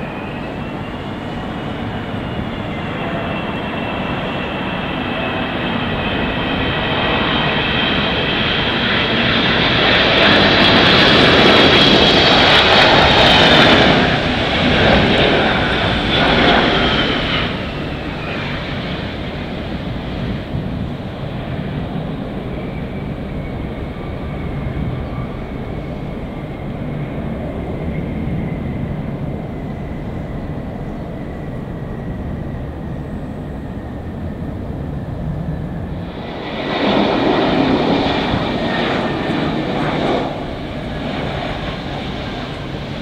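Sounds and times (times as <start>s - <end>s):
jet engine whine: 0.0s - 43.0s
jet engines running: 0.0s - 43.0s.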